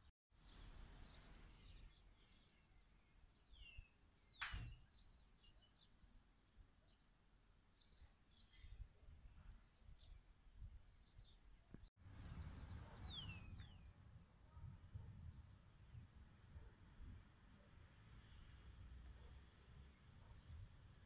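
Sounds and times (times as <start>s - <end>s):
small birds chirping: 0.4s - 7.1s, 7.7s - 16.8s, 17.6s - 21.0s.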